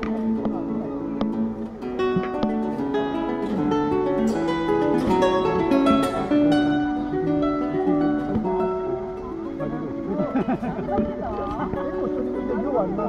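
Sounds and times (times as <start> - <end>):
acoustic guitar plucked melody: 0.0 - 13.0.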